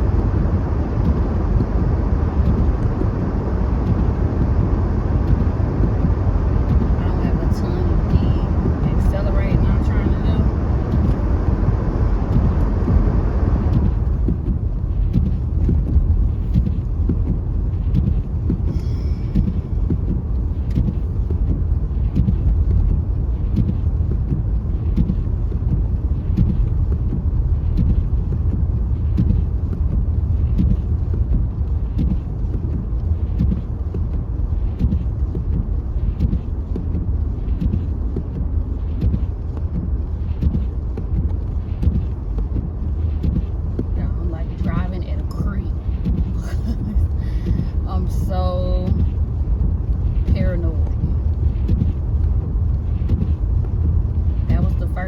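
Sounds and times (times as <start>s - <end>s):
car driving on snow: 0.0s - 55.0s.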